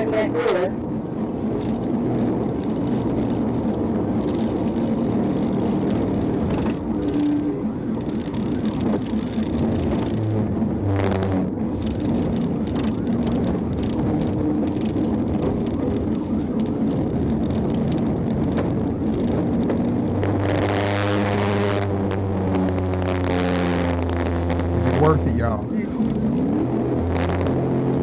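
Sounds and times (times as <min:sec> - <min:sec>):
car engine at speed: 0:00.0 - 0:28.0
low droning tone: 0:00.0 - 0:28.0
road noise: 0:00.0 - 0:28.0.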